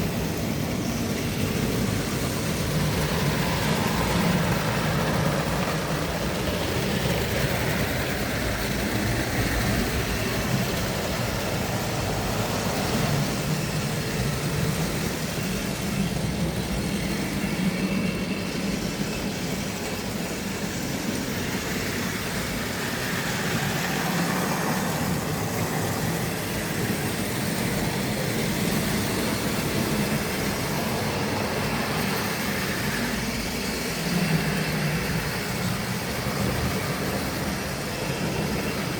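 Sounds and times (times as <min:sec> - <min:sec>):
model train running on track: 0:00.0 - 0:38.9.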